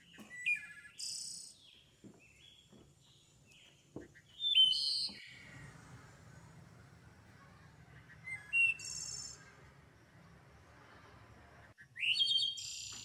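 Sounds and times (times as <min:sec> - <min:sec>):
birds chirping: 0:00.0 - 0:10.7, 0:11.4 - 0:13.0.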